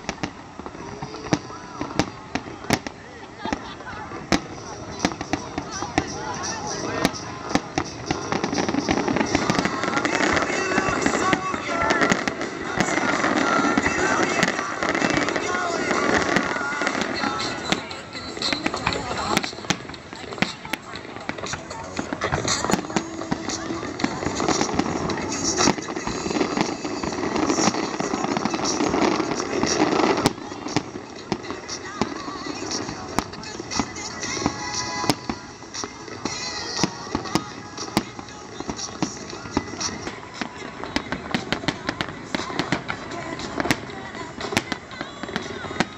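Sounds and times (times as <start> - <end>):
fireworks bangs and crackling: 0.0 - 45.9
music playing: 3.5 - 45.9.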